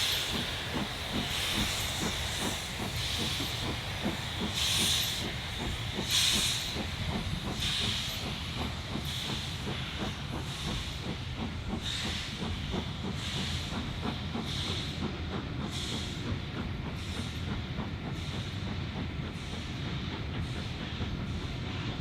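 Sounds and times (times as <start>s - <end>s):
steam hissing bursts: 0.0s - 18.5s
steam locomotive rumble: 0.0s - 22.0s.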